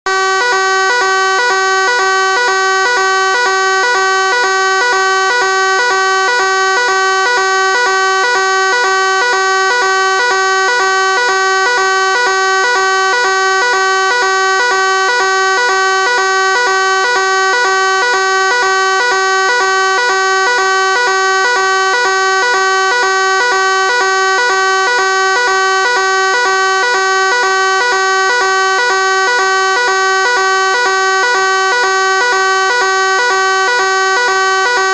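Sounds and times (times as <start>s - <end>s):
fire alarm ringing: 0.1s - 34.9s.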